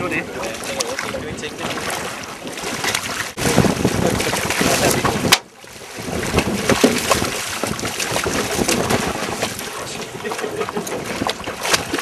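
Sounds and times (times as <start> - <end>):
sea water rushing: 0.0 - 12.0
wind on microphone: 0.0 - 12.0
fish splashing at surface: 0.5 - 12.0.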